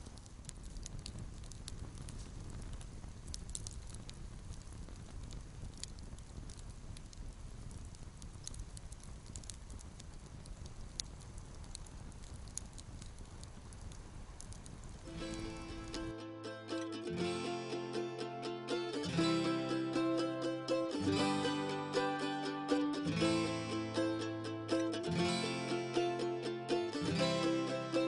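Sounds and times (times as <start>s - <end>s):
campfire crackling and popping: 0.0s - 28.0s
low fire rumble: 0.0s - 28.0s.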